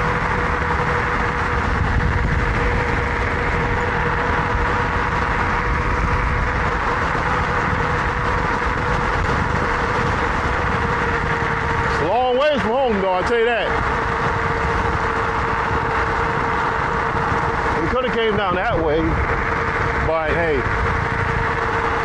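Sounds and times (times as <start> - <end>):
wind on microphone: 0.0 - 12.5, 13.7 - 22.0
bike tyre noise: 0.0 - 22.0
electric motor whine: 0.0 - 22.0.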